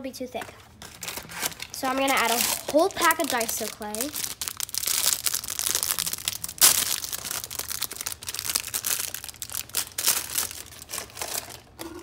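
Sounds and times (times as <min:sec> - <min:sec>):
plastic wrapper crinkling: 0:00.8 - 0:12.0.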